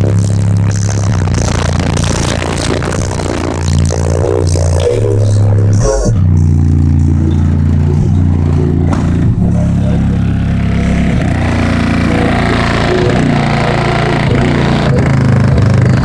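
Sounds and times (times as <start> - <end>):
bass-heavy rap music on subwoofers: 0.0 - 16.0.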